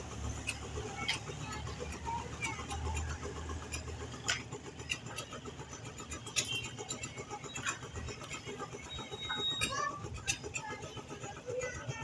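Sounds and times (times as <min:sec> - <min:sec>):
low engine hum: 0:00.0 - 0:12.0
sharp clicks and knocks: 0:00.2 - 0:10.9.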